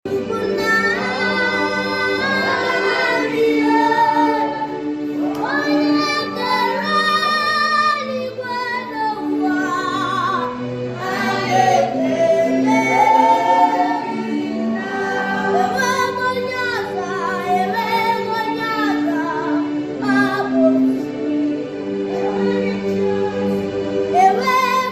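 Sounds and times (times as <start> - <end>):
sustained backing chords: 0.1 - 24.9.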